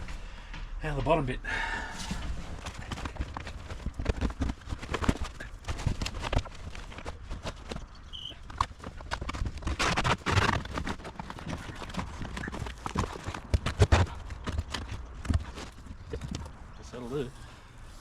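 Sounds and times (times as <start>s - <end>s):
canvas rustling and scraping: 2.0s - 18.0s.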